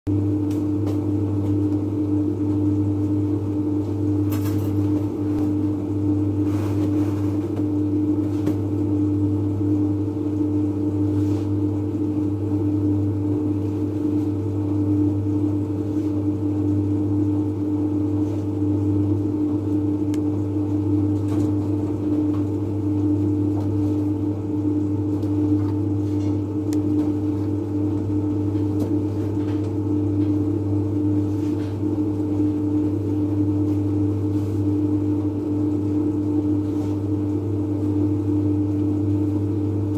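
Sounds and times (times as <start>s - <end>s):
bakery machinery drone: 0.1s - 39.9s.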